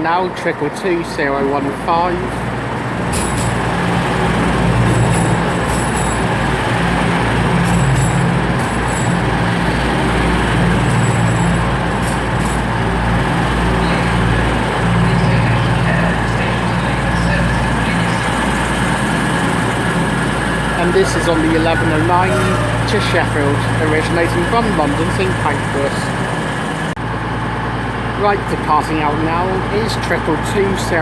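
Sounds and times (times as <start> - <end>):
diesel train engine humming: 0.0 - 31.0.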